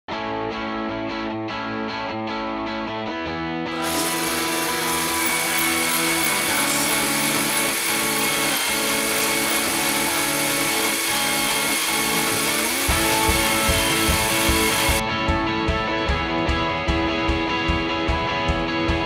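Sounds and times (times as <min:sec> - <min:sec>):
music with long held chords: 0:00.2 - 0:19.0.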